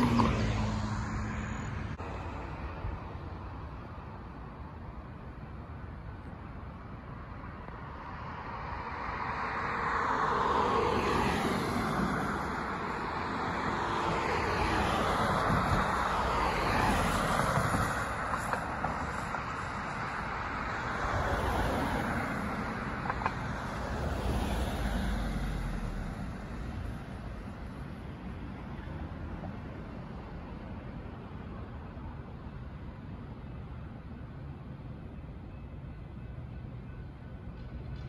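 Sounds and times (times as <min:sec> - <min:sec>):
cars driving past: 0:00.0 - 0:05.3, 0:07.1 - 0:34.6.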